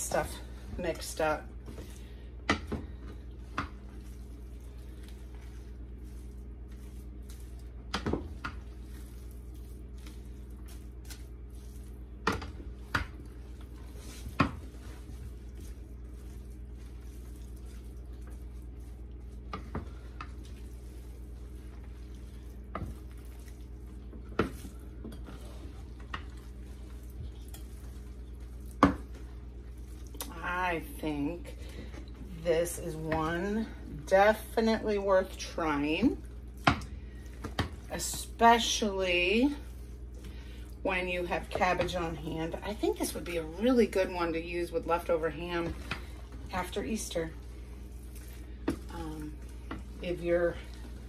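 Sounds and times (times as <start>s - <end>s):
steady low hum: 0.0s - 51.0s
wooden spoon stirring thick food: 0.0s - 51.0s.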